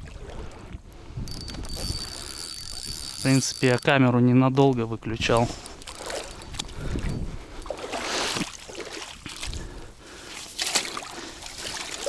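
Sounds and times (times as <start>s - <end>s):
water sloshing and splashing: 0.0s - 3.1s, 5.4s - 12.0s.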